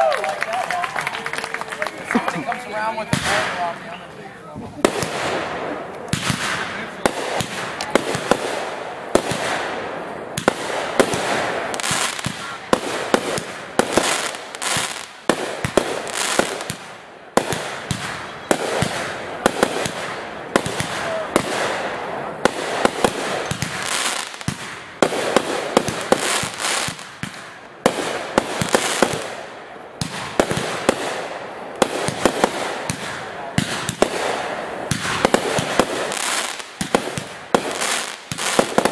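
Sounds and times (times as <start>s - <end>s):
fireworks bangs: 0.0s - 38.9s
fireworks crackle: 0.0s - 38.9s.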